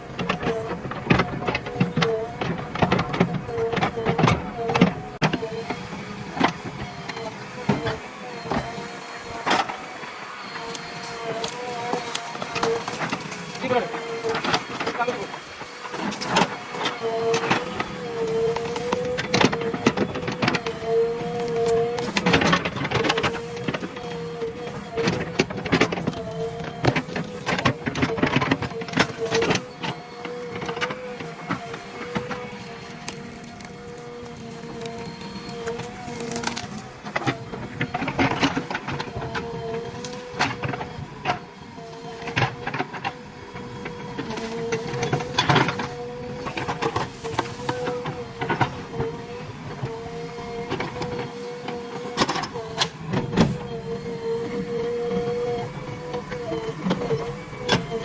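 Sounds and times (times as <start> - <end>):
hydraulic whine: 0.1 - 58.0.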